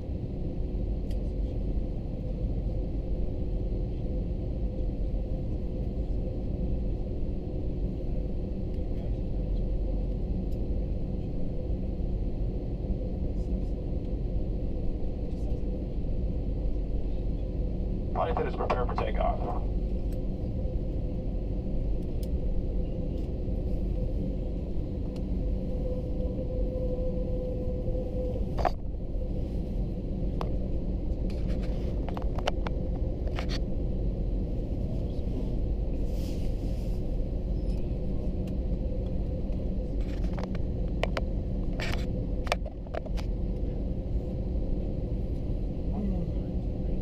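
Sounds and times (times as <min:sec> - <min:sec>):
aircraft cabin engine rumble: 0:00.0 - 0:47.0
faint steady hum: 0:08.0 - 0:47.0.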